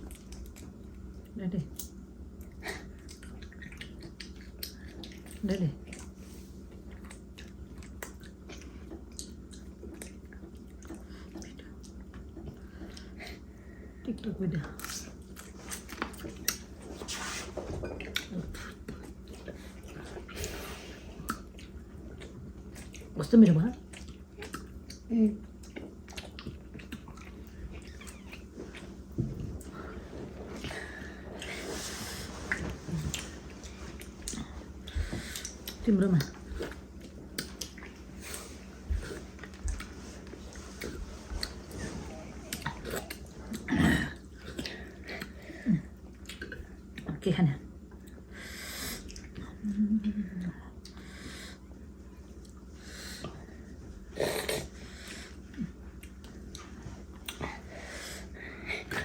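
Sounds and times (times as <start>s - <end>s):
chewing and wet mouth noises: 0.0s - 13.8s, 14.6s - 59.0s.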